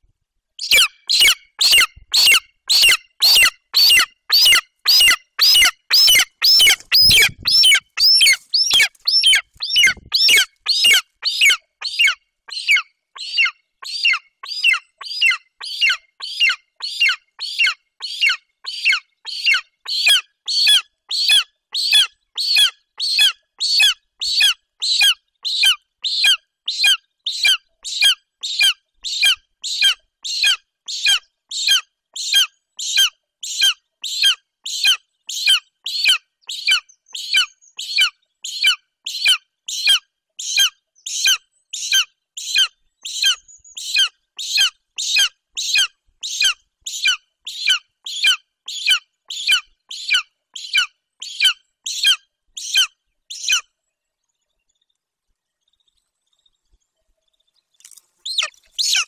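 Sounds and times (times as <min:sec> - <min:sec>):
eagle nestling calling: 0:00.6 - 0:53.6, 0:58.2 - 0:59.0.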